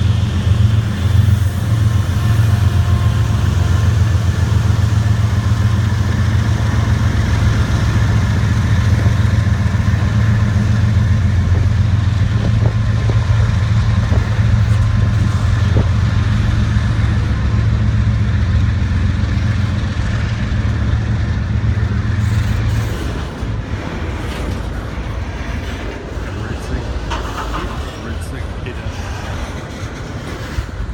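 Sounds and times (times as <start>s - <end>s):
diesel locomotive engine rumbling: 0.0s - 30.9s.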